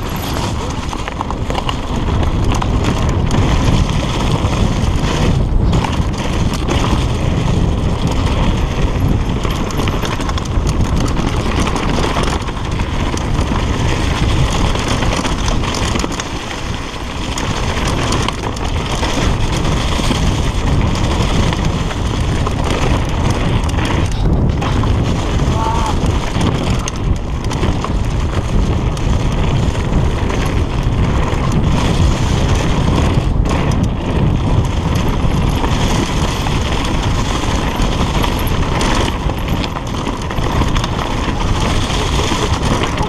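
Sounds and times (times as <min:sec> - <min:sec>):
bike rattling clicks and knocks: 0:00.0 - 0:43.0
tyres rumbling on dirt: 0:00.0 - 0:43.0
wind noise on microphone: 0:00.0 - 0:43.0.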